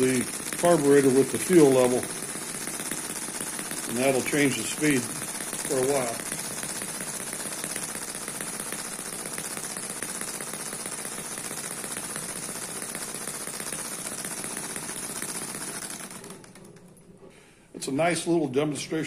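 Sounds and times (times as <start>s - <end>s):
model engine running fast: 0.0s - 16.7s.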